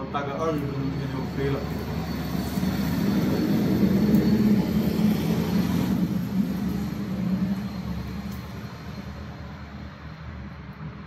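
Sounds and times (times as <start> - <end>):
heavy truck passing: 0.0 - 11.0.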